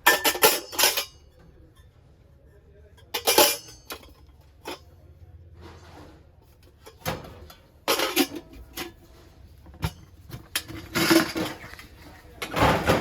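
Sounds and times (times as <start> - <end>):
objects knocking and scraping: 0.0 - 13.0.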